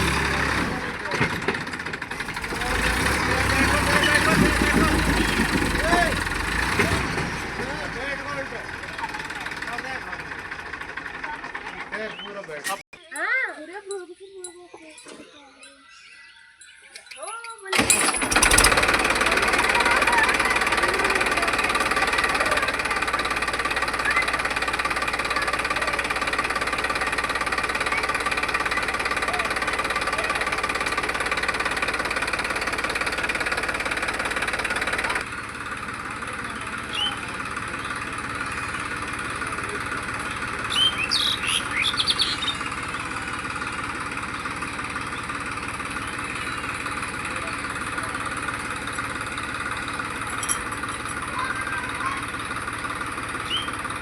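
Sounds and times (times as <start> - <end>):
tractor engine running: 0.0 - 12.8, 17.7 - 54.0.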